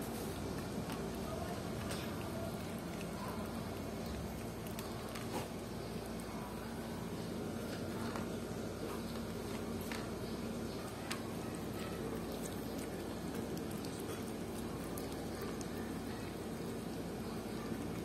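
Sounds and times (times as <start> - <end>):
cat chewing: 0.0 - 18.0
low background hum: 0.0 - 18.0.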